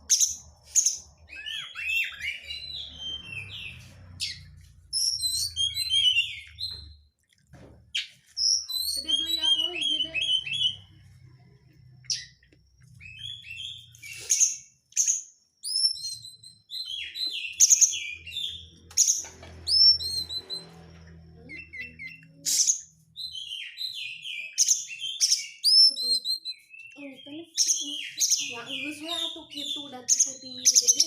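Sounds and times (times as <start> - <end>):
magpie-robin singing: 0.0 - 7.0, 8.0 - 10.9, 12.0 - 20.7, 21.4 - 31.0.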